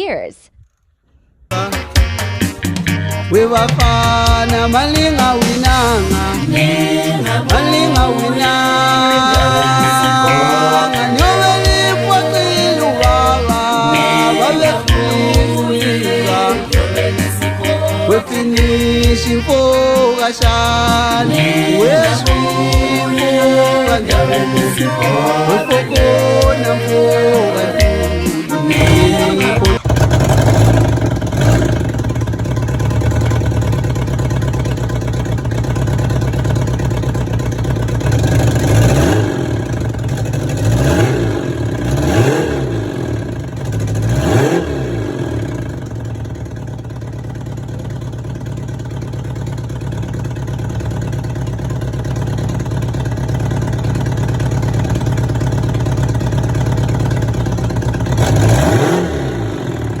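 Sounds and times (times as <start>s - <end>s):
motorcycle engine idling: 0.7s - 60.0s
engine revving: 1.5s - 48.5s, 50.2s - 60.0s.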